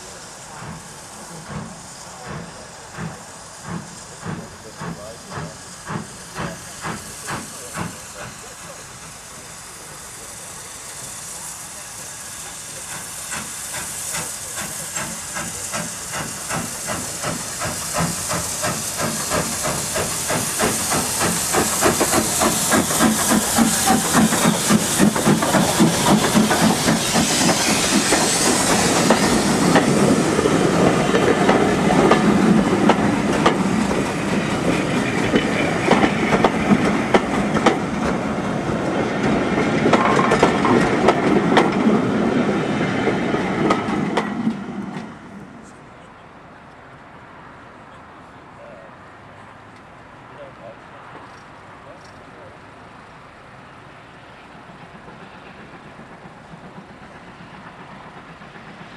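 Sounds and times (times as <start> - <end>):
steam locomotive exhaust beats: 0.0 - 45.8, 53.6 - 58.9
steady hiss of steam: 0.0 - 58.9.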